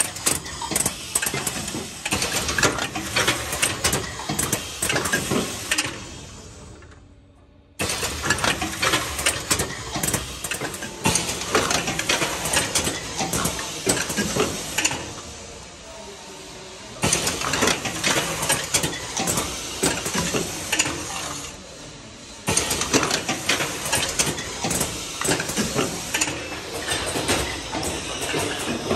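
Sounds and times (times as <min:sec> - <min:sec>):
machine clattering: 0:00.0 - 0:06.0, 0:07.8 - 0:15.1, 0:17.0 - 0:21.4, 0:22.5 - 0:28.9.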